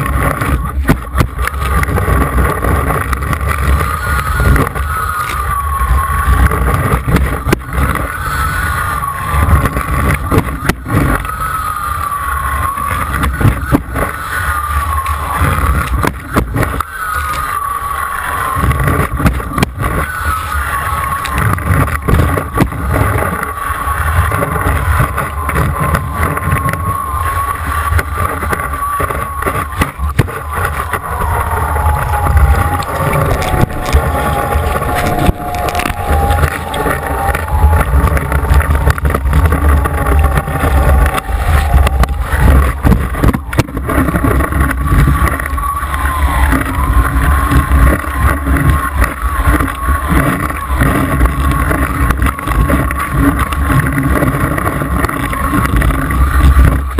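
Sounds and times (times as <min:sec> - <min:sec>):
wind buffeting on microphone: 0:00.0 - 0:17.5, 0:18.4 - 0:56.9
boat engine whine: 0:00.0 - 0:56.9
water ski cutting through water: 0:00.0 - 0:56.9.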